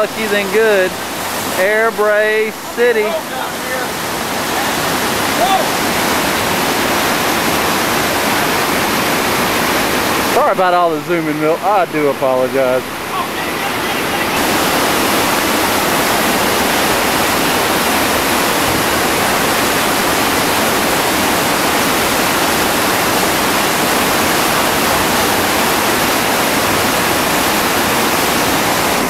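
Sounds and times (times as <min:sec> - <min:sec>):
water roaring over rocks: 0:00.0 - 0:29.0.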